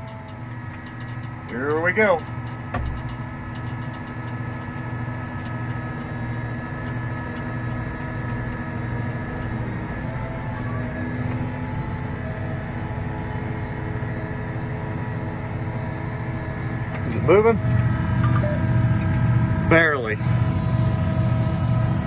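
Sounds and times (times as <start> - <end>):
tractor diesel engine straining: 0.0 - 22.0.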